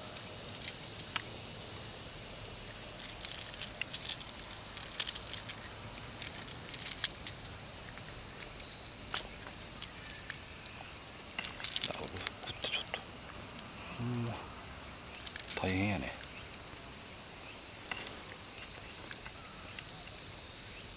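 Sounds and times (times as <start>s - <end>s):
insects chorus: 0.0s - 20.9s.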